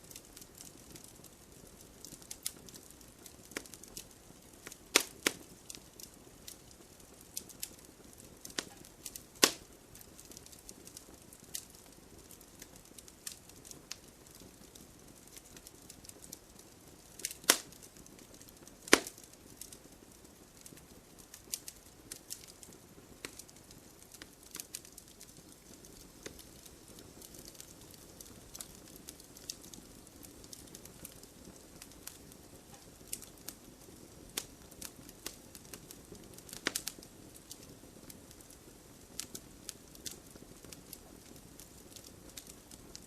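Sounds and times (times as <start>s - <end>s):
campfire crackling: 0.0s - 43.0s
soft steady hiss: 0.0s - 43.0s.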